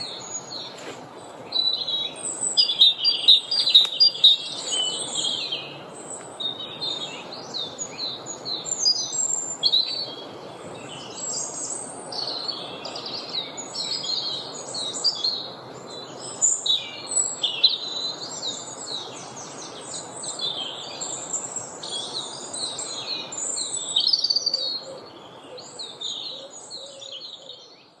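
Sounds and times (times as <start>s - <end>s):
songbirds singing and calling: 0.0s - 28.0s.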